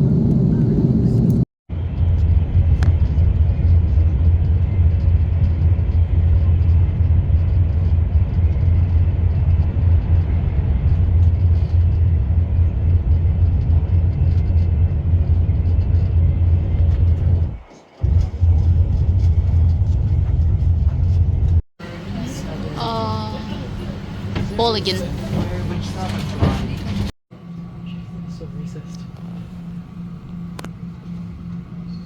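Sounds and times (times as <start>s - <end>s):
vehicle rumbling in motion: 0.0s - 32.0s.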